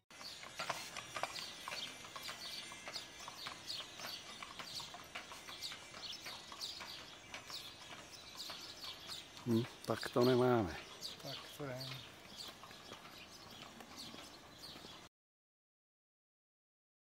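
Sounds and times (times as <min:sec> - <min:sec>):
small birds chirping: 0:00.1 - 0:15.1.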